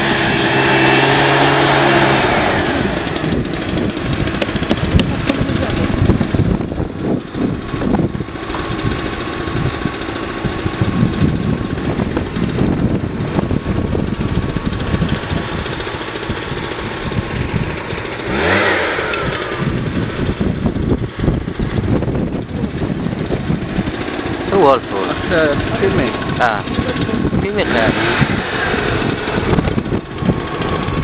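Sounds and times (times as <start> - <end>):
falling whine: 0.0 - 31.0
small blower engine running: 0.0 - 31.0.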